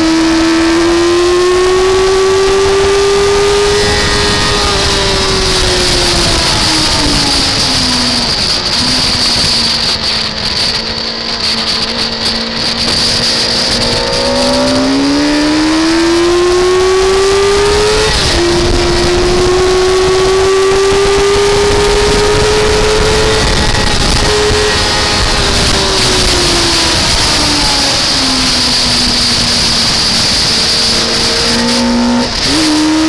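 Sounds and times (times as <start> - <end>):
car engine accelerating: 0.0 - 33.0
wind and road noise: 0.0 - 33.0.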